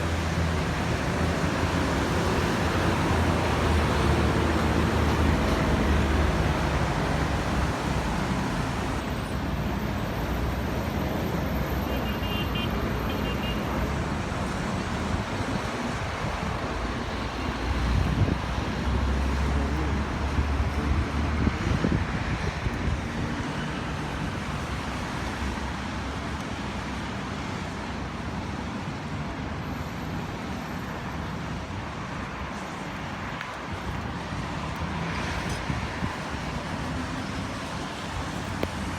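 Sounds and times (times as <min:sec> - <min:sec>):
vehicles driving past: 0:00.0 - 0:38.9.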